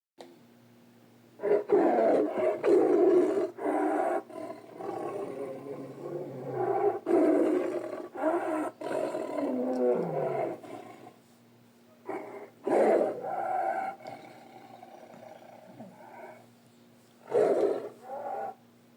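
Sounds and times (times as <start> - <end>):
tiger growling and roaring: 1.4 - 11.2, 12.1 - 16.4, 17.3 - 18.6.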